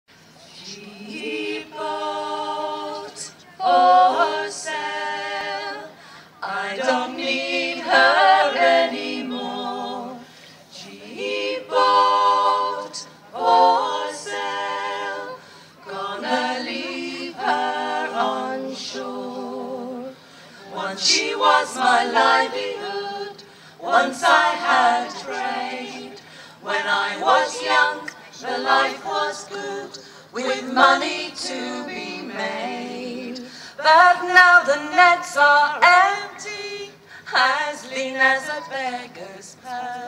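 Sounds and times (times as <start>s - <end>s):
women singing a cappella in harmony: 0.3s - 40.0s.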